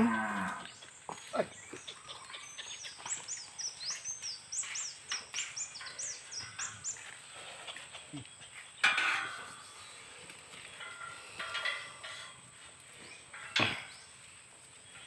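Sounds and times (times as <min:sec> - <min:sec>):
birds chirping: 0:00.0 - 0:15.0
faint outdoor background: 0:00.0 - 0:15.0.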